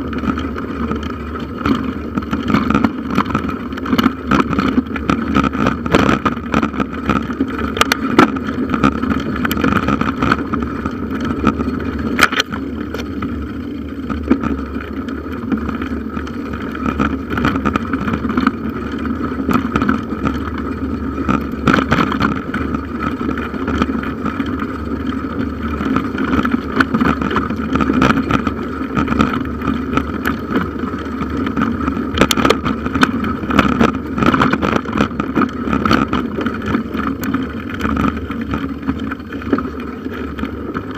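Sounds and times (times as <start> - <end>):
bicycle rumble and rattle: 0.0 - 40.9.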